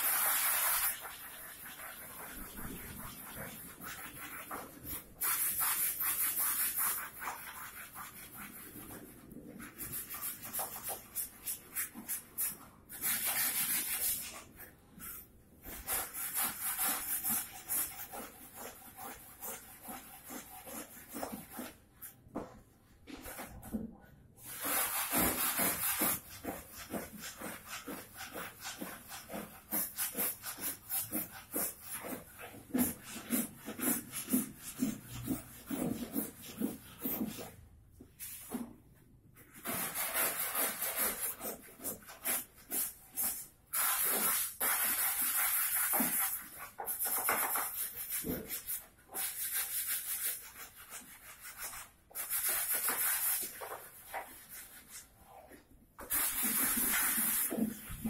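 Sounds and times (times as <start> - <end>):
hand sanding wood: 0.0 - 22.2, 24.4 - 37.6, 39.4 - 58.0.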